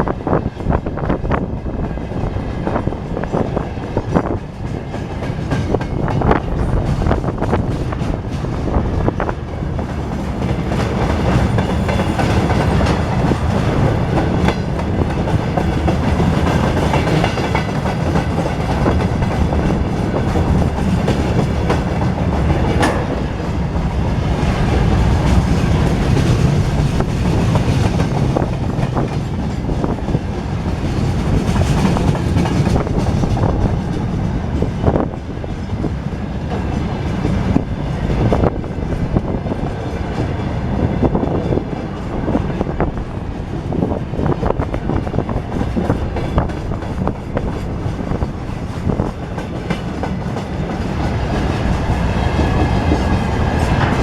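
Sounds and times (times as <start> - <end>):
heavy train rumble: 0.0 - 54.0
train wheels clattering: 1.4 - 54.0.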